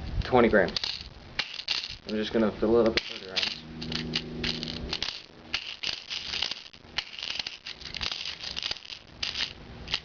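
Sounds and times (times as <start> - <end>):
plastic pellets rattling and clicking: 0.7 - 10.0.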